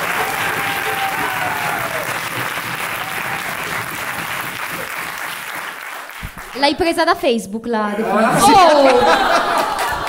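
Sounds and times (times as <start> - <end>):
crowd applauding: 0.0 - 6.8, 8.1 - 10.0.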